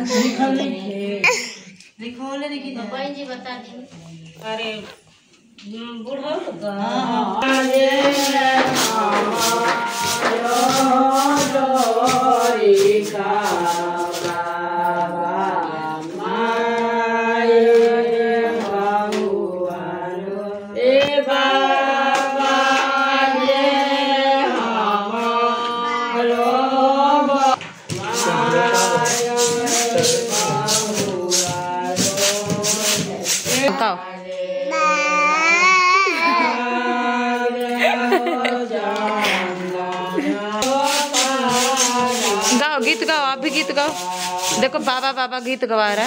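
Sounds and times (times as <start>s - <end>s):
women singing together: 0.0s - 3.0s, 5.6s - 46.0s.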